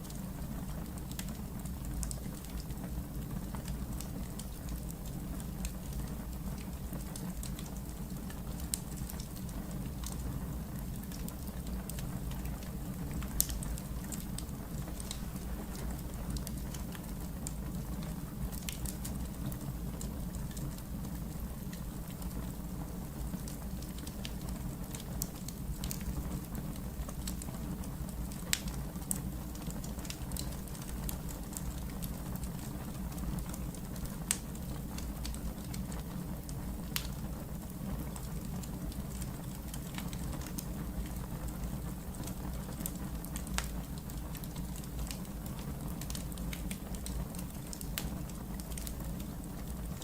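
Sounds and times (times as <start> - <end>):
fire crackles and pops: 0.0 - 50.0
fire low rumble: 0.0 - 50.0.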